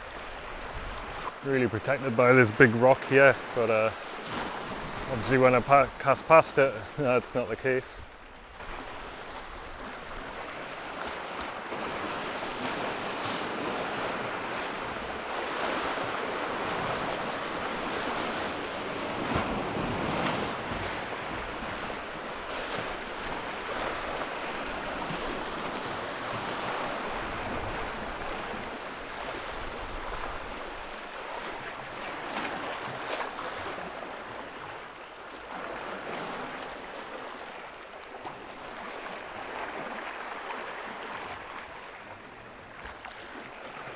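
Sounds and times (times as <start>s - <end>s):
waves washing over rocks: 0.0s - 42.1s.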